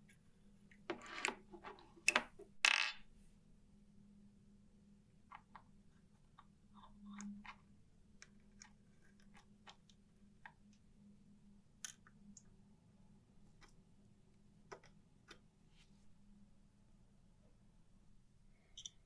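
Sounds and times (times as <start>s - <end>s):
faint steady hum: 3.0s - 19.0s.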